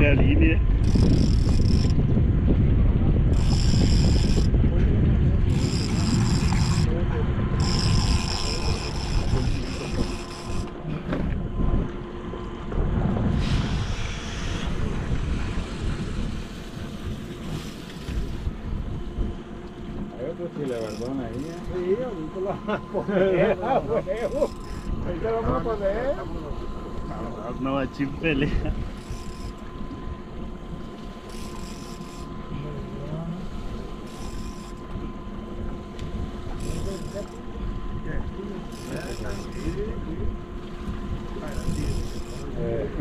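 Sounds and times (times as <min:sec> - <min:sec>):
wind buffeting microphone: 0:00.0 - 0:20.2, 0:21.2 - 0:30.9, 0:33.5 - 0:43.0
outboard motors running: 0:00.0 - 0:43.0.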